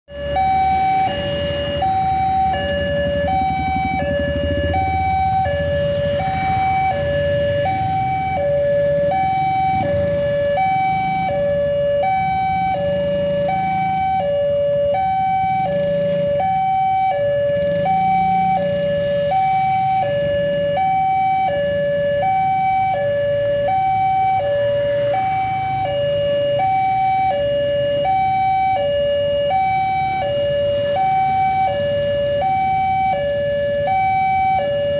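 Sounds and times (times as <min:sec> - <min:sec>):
motorcycle and car engines: 0:00.1 - 0:34.9
two-tone crossing alarm: 0:00.1 - 0:34.9.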